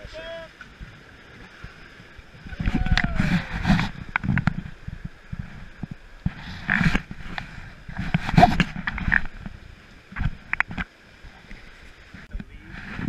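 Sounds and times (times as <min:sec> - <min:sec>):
whitewater rushing and splashing: 0:00.0 - 0:13.0
paddles knocking against raft: 0:00.6 - 0:13.0.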